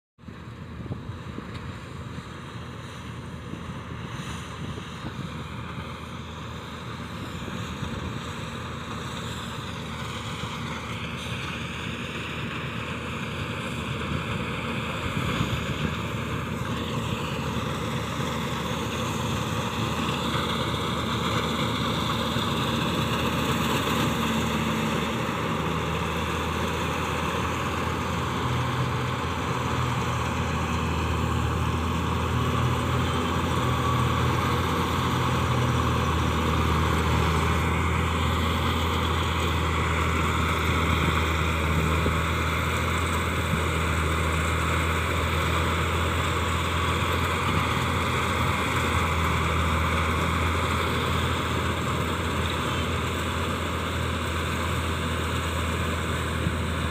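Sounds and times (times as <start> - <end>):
combine harvester engine drone: 0.2 - 56.9.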